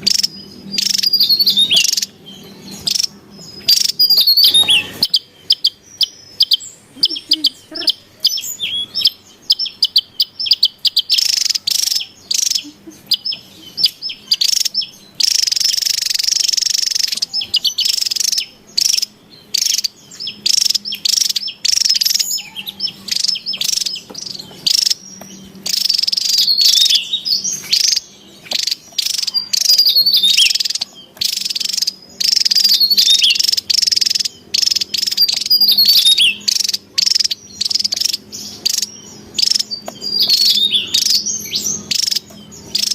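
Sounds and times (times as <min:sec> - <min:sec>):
bird chirps and trills: 0:00.0 - 0:42.9.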